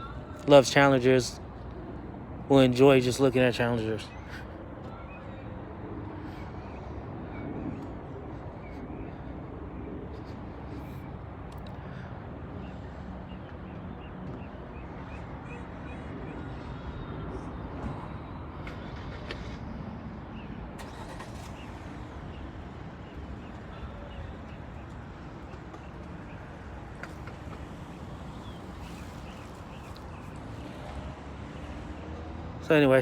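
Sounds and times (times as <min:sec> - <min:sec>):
low rumble of traffic: 0:00.0 - 0:33.0.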